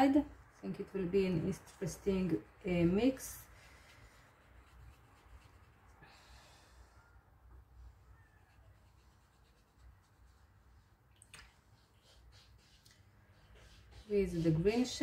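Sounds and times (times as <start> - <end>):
paintbrush brushing softly: 2.9 - 15.0.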